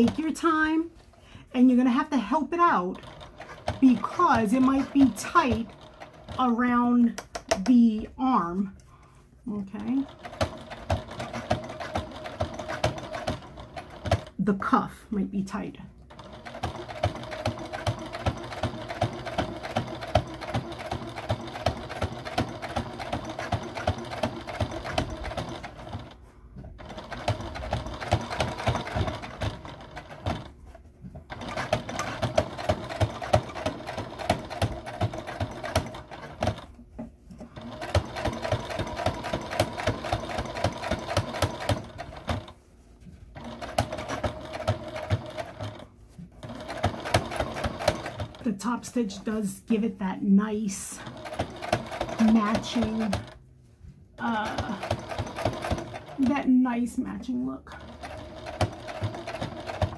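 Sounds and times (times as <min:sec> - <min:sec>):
sewing machine stitching: 0:00.0 - 0:00.8, 0:01.6 - 0:08.5, 0:09.5 - 0:14.5, 0:15.5 - 0:42.6, 0:43.3 - 0:49.2, 0:50.7 - 0:53.4, 0:54.2 - 0:59.9.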